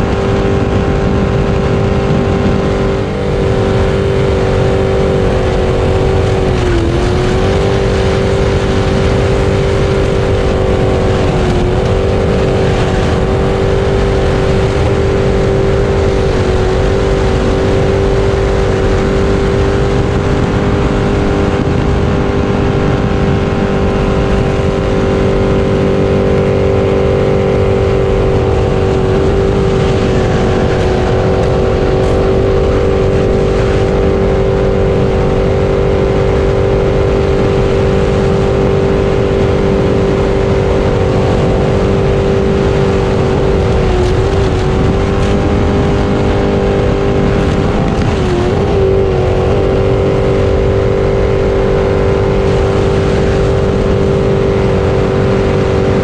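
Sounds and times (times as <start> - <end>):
jet boat engine running hard: 0.0 - 56.0.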